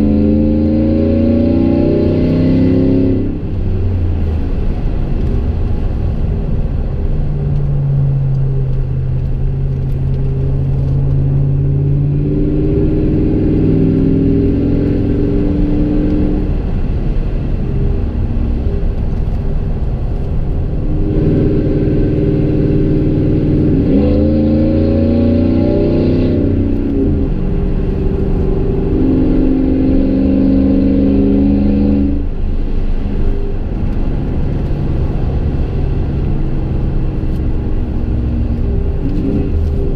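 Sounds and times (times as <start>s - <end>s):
truck exhaust while driving: 0.0s - 39.9s.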